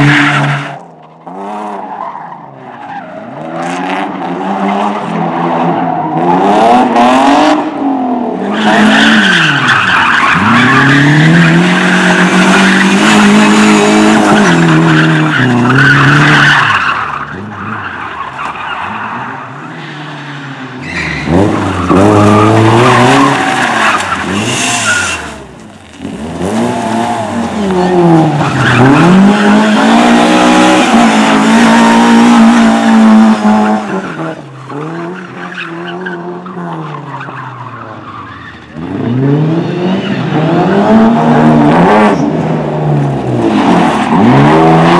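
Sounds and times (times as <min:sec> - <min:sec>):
tyre squeal and skidding: 0:00.0 - 0:03.8, 0:08.4 - 0:41.0
car engines revving: 0:00.0 - 0:44.9.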